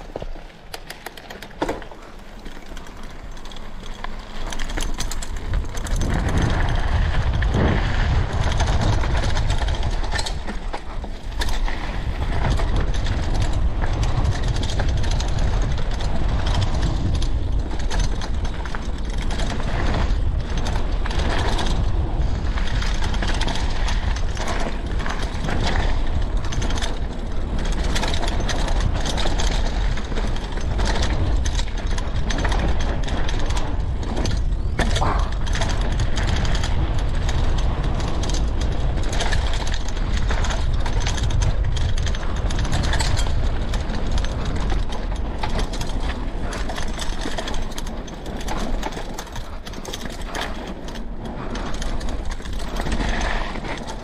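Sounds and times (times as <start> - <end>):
bicycle freehub ticking: 0.0 - 54.0
bike rattling over stones: 0.0 - 54.0
rumble of wind and tyre noise: 0.0 - 54.0.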